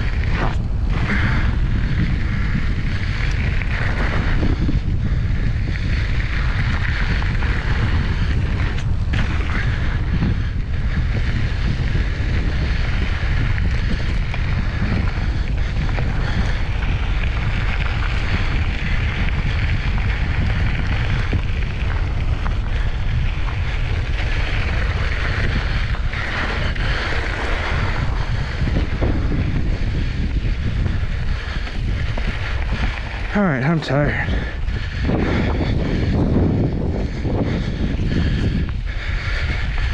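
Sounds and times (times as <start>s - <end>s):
bike tyres rolling over gravel: 0.0s - 39.9s
wind buffeting microphone: 0.0s - 39.9s.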